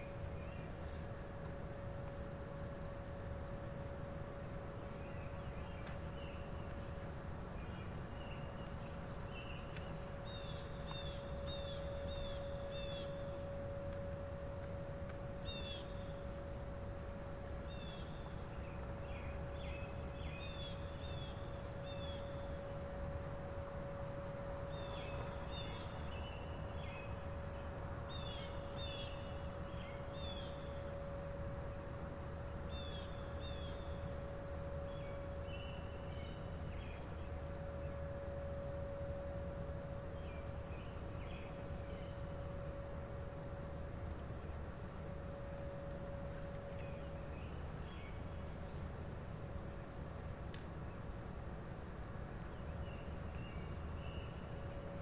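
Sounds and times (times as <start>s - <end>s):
distant warning siren: 0.0s - 48.6s
crickets and insects: 0.0s - 55.0s.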